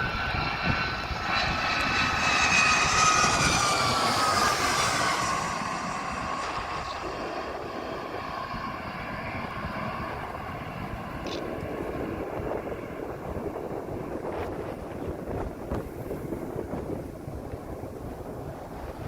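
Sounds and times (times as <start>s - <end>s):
jet engine rumble: 0.0s - 19.0s
jet engines whining: 0.0s - 19.0s
wind on microphone: 0.0s - 19.0s.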